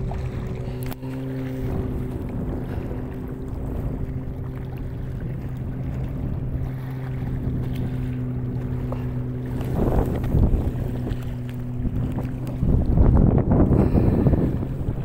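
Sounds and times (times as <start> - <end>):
steady motor drone: 0.0 - 15.0
wind rumble on microphone: 0.0 - 15.0.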